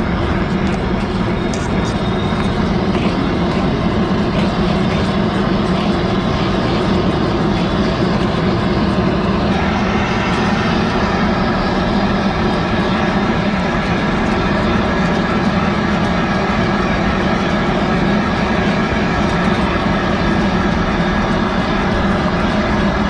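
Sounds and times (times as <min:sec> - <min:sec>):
loud machinery roar: 0:00.0 - 0:23.0.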